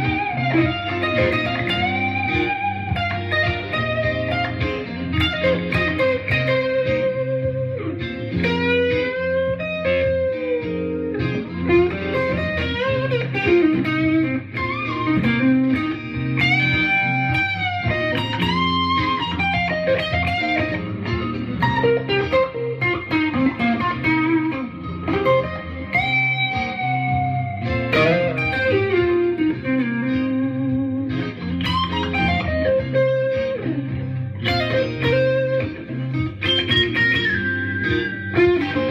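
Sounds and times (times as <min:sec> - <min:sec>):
blues chord loop: 0:00.0 - 0:38.9
electric guitar blues lead: 0:00.0 - 0:38.9.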